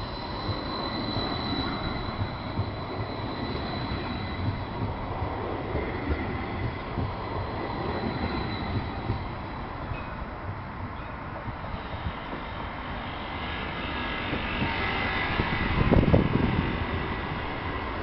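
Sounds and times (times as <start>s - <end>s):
high steady whine: 0.0s - 18.0s
tram wheels rumbling on rail: 0.0s - 18.0s.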